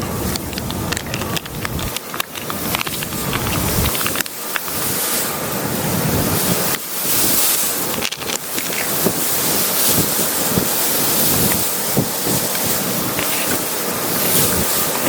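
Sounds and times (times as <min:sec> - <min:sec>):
strong gusting wind on microphone: 0:00.0 - 0:15.0.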